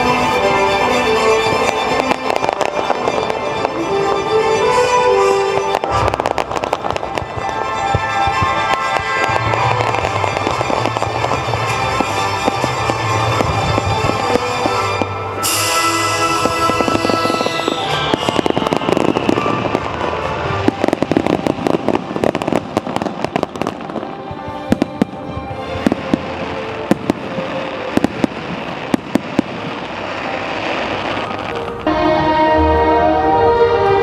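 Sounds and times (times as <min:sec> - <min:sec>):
fireworks bursting and crackling: 0:00.0 - 0:32.5
background music: 0:00.0 - 0:34.0.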